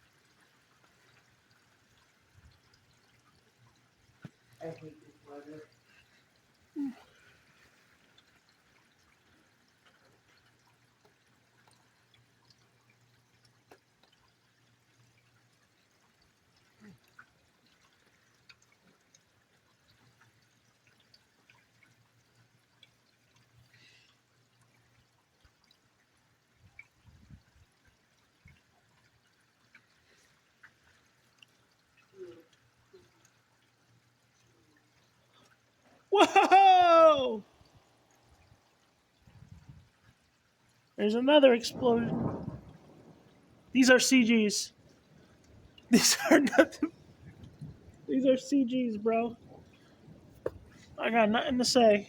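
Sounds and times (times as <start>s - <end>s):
dripping water: 0.0s - 52.0s
faint rain: 0.0s - 52.0s.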